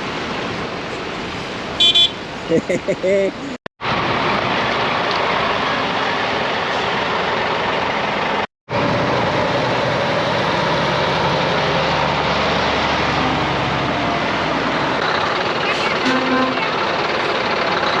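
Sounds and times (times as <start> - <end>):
lorry diesel engines running: 0.0 - 18.0.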